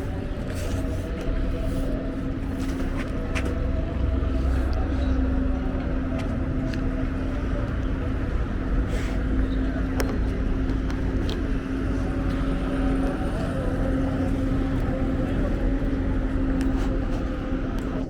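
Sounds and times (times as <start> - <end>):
constant hum: 0.0 - 18.0
motor rumble: 0.0 - 18.0.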